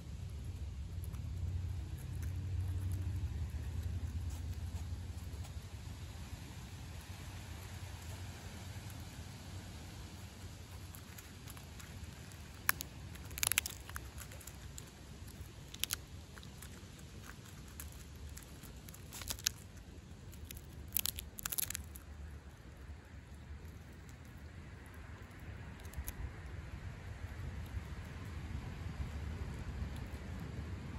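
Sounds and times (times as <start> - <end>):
skunk crunching peanuts: 0.0 - 30.6.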